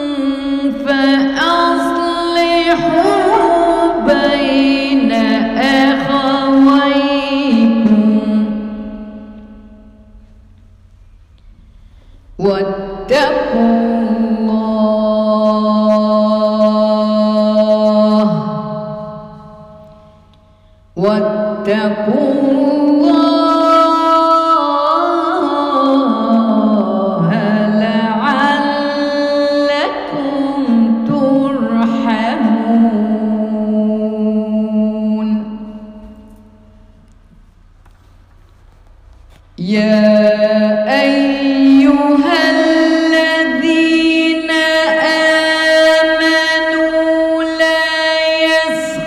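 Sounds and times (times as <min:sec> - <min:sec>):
woman chanting melodically: 0:00.0 - 0:10.2, 0:12.3 - 0:20.3, 0:21.0 - 0:37.0, 0:39.6 - 0:49.0.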